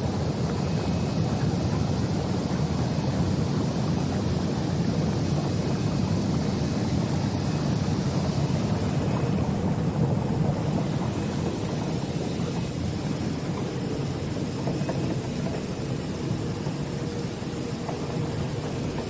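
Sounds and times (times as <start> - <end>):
rushing water noise: 0.0 - 19.0
washing machine rumble: 0.0 - 19.0.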